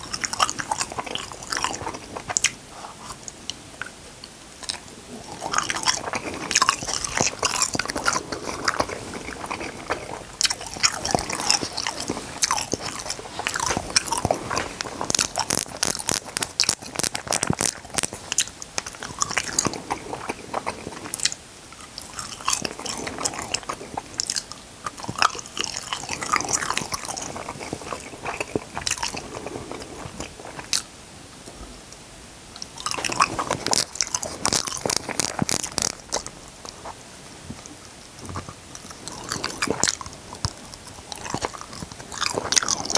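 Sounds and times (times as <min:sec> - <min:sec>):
person crunching and chewing: 0:00.0 - 0:30.9, 0:32.6 - 0:42.9.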